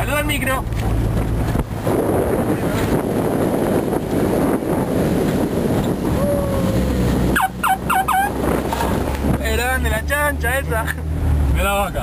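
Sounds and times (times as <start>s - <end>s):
car engine and gravel rumble: 0.0s - 12.0s.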